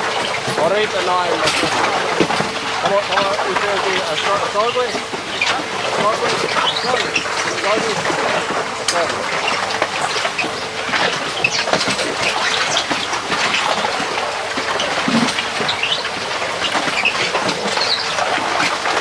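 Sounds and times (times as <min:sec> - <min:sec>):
diesel motor drone: 0:00.0 - 0:19.0.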